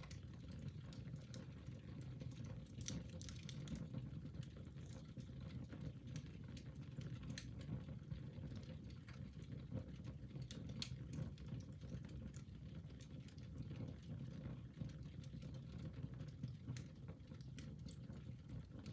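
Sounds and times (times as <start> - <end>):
low fire rumble: 0.0 - 18.9
wood fire crackling and popping: 0.0 - 18.9.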